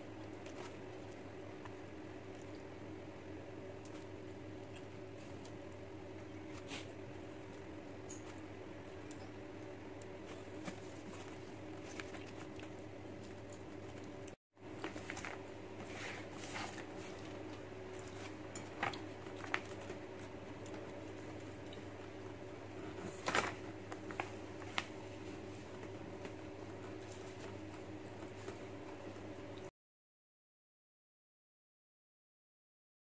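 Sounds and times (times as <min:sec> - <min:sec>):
steady low hum: 0:00.0 - 0:29.7.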